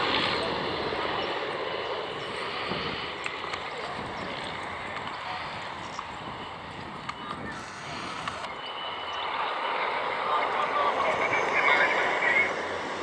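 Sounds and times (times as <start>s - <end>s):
aircraft engine: 0.0s - 13.0s.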